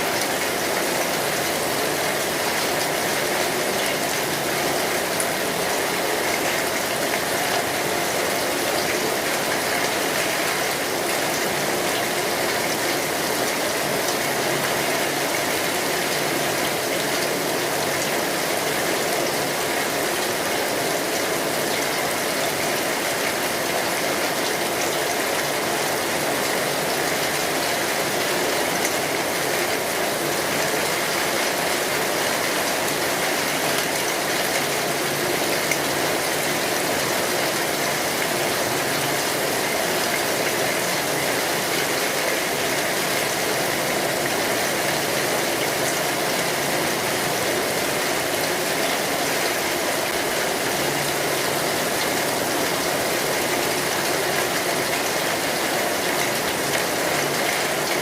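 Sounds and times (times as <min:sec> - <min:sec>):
rain drumming on a metal roof: 0:00.0 - 0:58.0.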